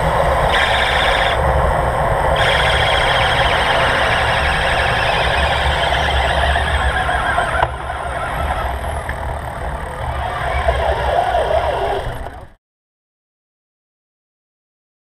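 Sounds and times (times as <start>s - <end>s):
brakes squealing: 0.0s - 12.6s
road and tyre noise: 0.0s - 12.6s.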